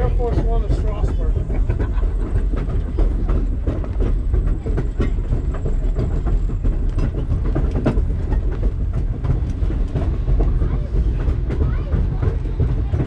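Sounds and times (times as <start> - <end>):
train cars rumbling on track: 0.0 - 13.0
wheels clicking over rail joints: 0.0 - 13.0.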